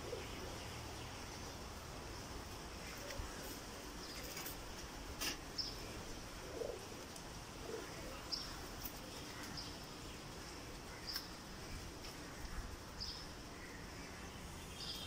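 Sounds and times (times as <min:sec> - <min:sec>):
pigeons cooing: 0:00.0 - 0:14.2
small birds chirping: 0:00.0 - 0:15.0.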